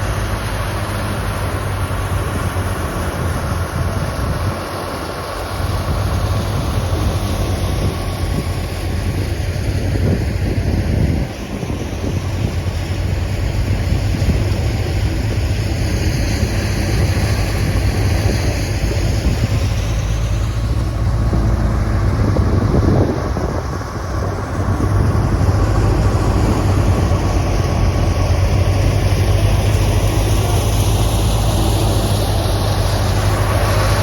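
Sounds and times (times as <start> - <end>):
thresher machine drone: 0.0 - 34.0.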